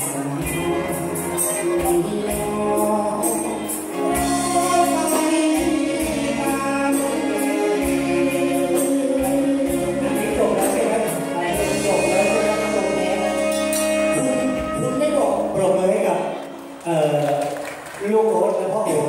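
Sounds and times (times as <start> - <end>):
man singing: 0.0 - 16.1
live band playing: 0.0 - 19.0.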